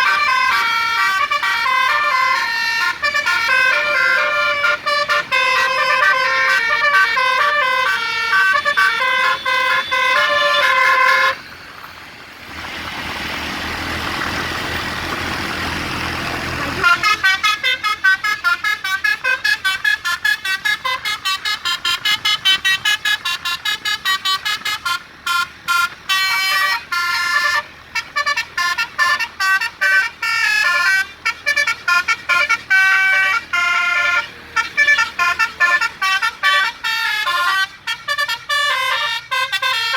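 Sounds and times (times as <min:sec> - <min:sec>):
bus musical horn playing a tune: 0:00.0 - 0:11.5, 0:16.1 - 0:39.9.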